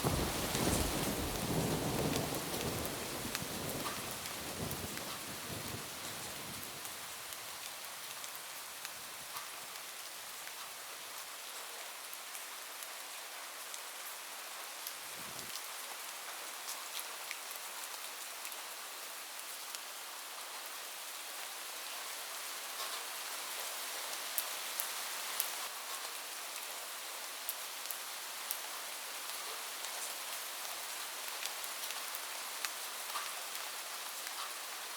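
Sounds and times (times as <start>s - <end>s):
rain on a roof: 0.0s - 34.9s.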